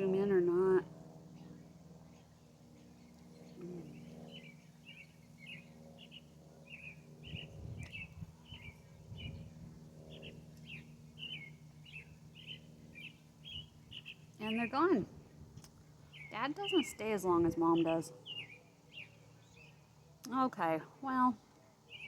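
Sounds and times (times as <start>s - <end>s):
low steady hum: 0.0s - 22.0s
bird chirping: 1.4s - 15.0s, 16.1s - 20.1s.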